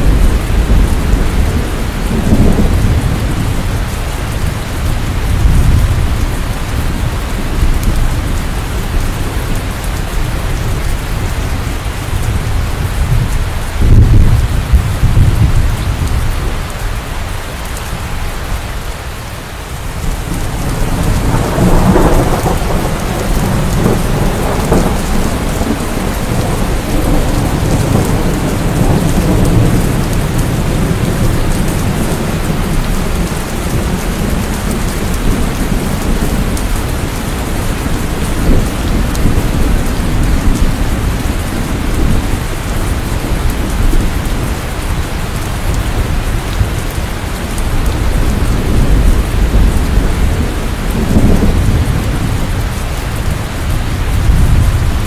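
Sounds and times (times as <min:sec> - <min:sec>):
thunder rumbling: 0:00.0 - 0:18.8, 0:19.6 - 0:55.0
heavy rain: 0:00.0 - 0:55.0.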